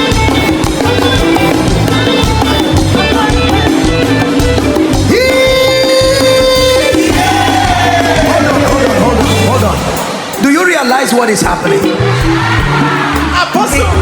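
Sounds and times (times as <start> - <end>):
upbeat music with steady beat: 0.0 - 14.0.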